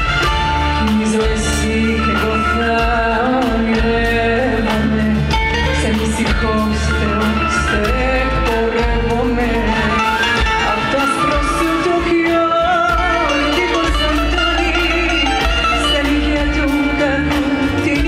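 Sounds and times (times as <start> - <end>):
bouzouki: 0.0 - 18.0
woman singing: 0.1 - 18.0.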